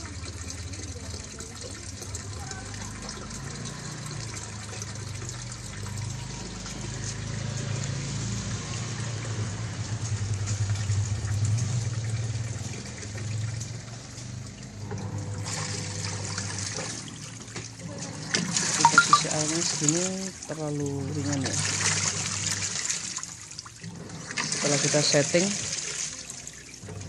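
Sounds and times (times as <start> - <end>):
washing machine hum: 0.0 - 27.0
water pouring and splashing: 0.0 - 27.0.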